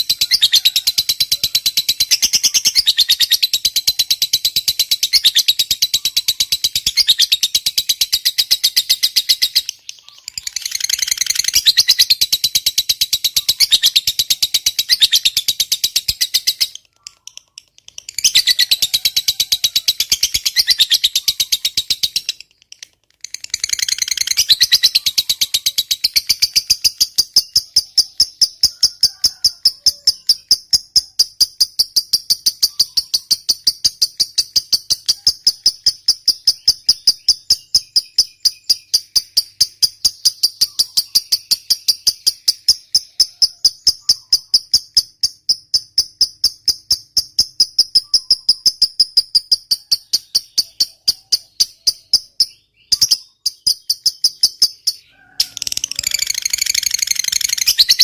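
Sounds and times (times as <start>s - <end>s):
lovebird chattering trill: 0.0s - 58.0s.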